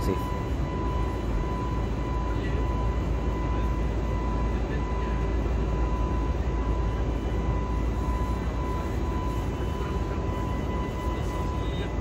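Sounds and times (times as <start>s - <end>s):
airplane cabin rumble: 0.0s - 12.0s
thin high whine: 0.0s - 12.0s.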